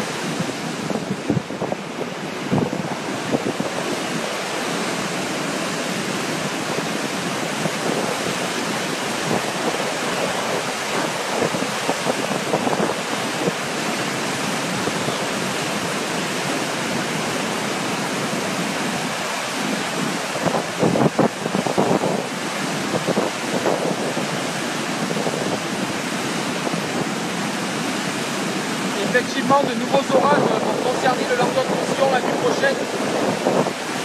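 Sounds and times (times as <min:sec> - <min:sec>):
rushing floodwater: 0:00.0 - 0:34.0.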